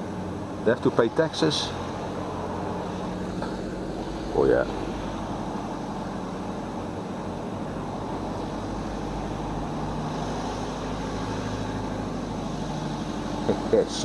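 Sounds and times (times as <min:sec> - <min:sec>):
car engine running: 0:00.0 - 0:14.0
tyre and road noise: 0:00.0 - 0:14.0.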